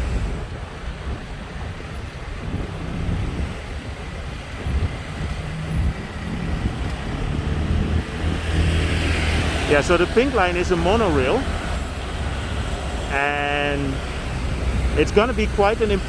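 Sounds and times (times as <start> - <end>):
cars and trucks passing: 0.0 - 16.0
steady road noise: 0.0 - 16.0.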